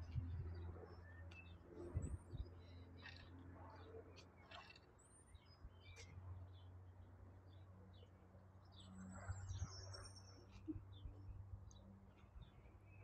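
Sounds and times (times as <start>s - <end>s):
faint bird chirps and calls: 0.0s - 6.8s, 7.5s - 13.0s.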